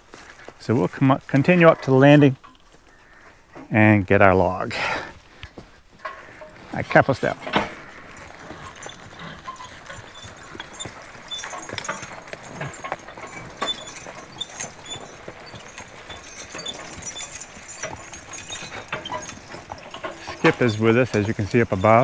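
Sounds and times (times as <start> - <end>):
footsteps on trail: 0.0 - 22.0
horse hoofbeats: 0.0 - 22.0.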